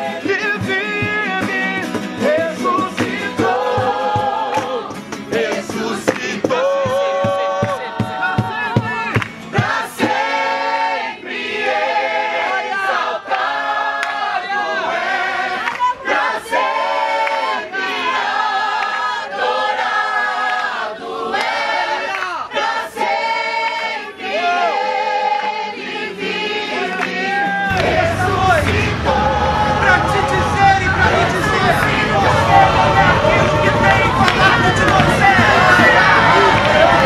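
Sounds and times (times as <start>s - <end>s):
group of voices singing: 0.0s - 37.0s.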